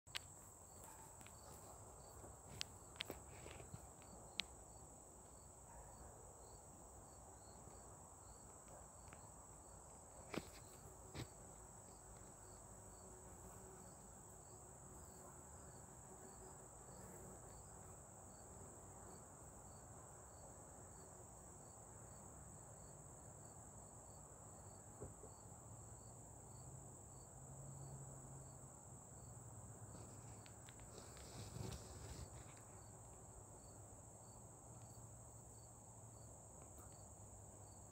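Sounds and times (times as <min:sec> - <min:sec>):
crickets chirping: 0:00.1 - 0:37.9.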